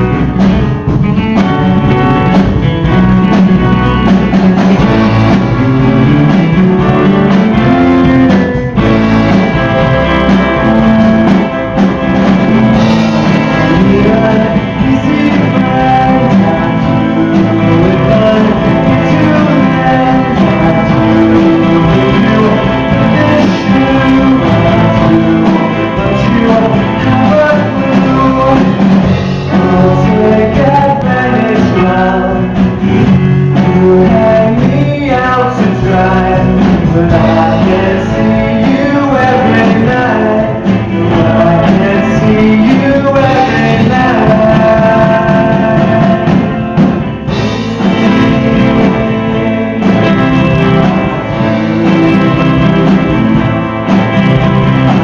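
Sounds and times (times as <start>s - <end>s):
band playing live: 0.0s - 55.0s
guitar: 0.0s - 55.0s
person singing: 0.0s - 55.0s.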